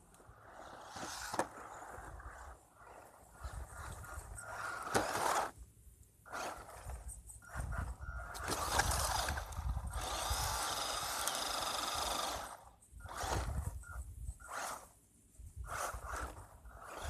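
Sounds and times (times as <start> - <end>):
electric toy truck motor whining: 0.2 - 5.6, 6.3 - 15.0, 15.6 - 17.0.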